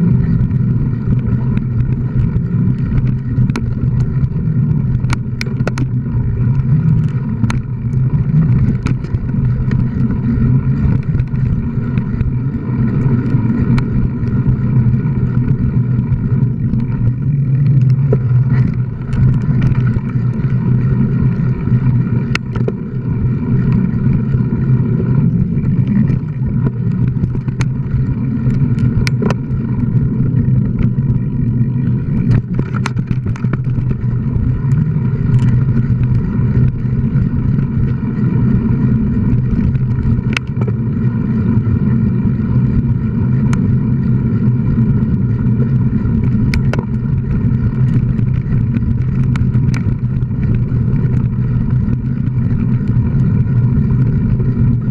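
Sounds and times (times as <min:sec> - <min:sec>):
bike knocking and rattling: 0:00.0 - 0:54.9
bike tyres rumbling on dirt: 0:00.0 - 0:54.9.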